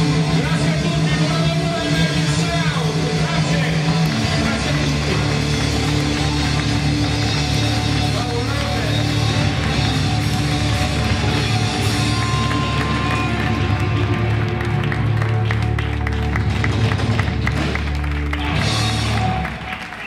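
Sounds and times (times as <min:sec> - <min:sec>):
bass guitar: 0:00.0 - 0:19.7
electric guitars: 0:00.0 - 0:19.7
drum kit: 0:00.0 - 0:20.0.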